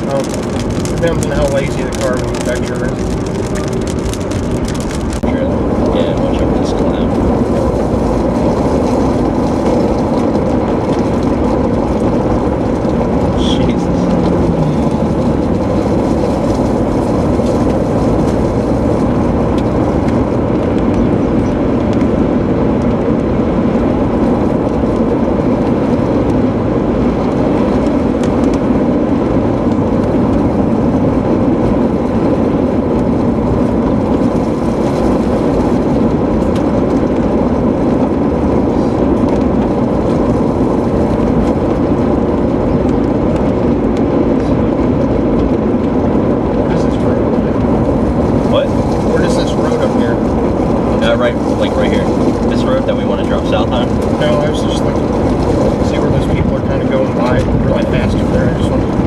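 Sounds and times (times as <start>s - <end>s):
road and engine noise in car: 0.0s - 59.0s.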